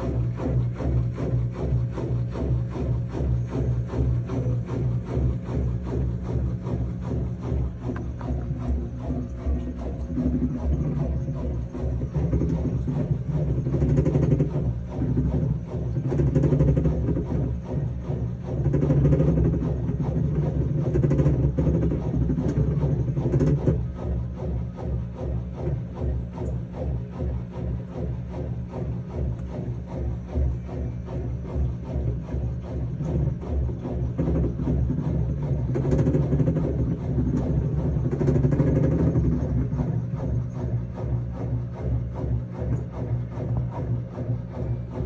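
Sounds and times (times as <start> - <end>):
washing machine drum rumbling: 0.0 - 45.0.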